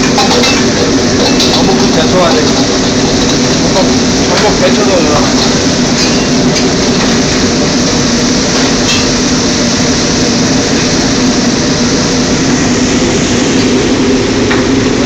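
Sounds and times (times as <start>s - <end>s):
wok burner rushing drone: 0.0s - 15.0s.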